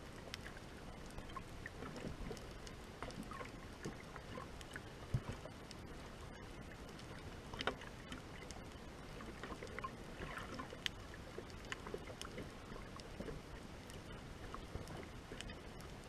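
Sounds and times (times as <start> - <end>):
sharp underwater clicks and crackles: 0.0 - 16.0.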